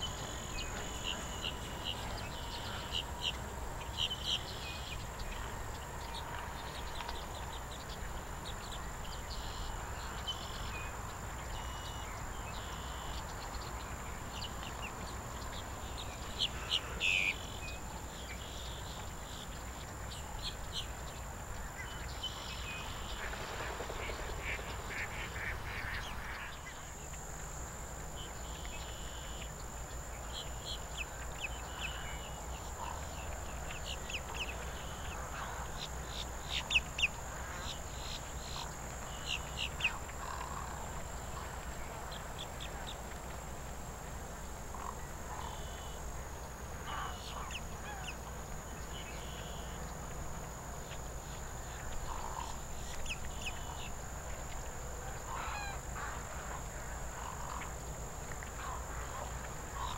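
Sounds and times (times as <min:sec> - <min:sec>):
wading birds and ducks calling: 0:00.0 - 0:27.0, 0:30.4 - 0:59.9.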